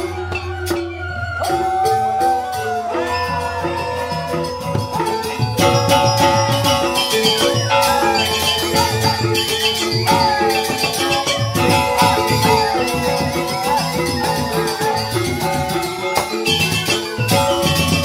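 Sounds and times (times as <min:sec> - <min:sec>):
bamboo xylophones playing: 0:00.0 - 0:18.0
hand drums: 0:00.0 - 0:18.0.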